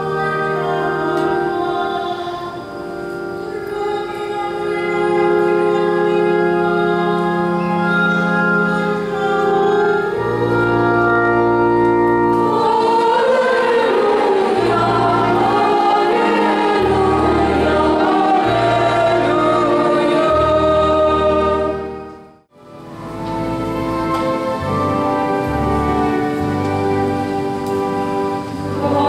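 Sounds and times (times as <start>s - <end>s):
women's choir singing a hymn: 0.0s - 22.2s, 23.4s - 29.0s
electronic organ chords: 0.0s - 29.0s.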